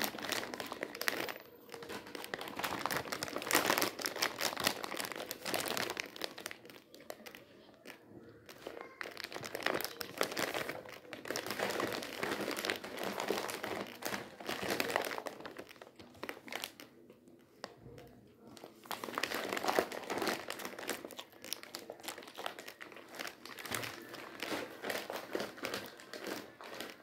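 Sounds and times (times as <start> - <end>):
plastic packets crinkling: 0.0 - 27.0.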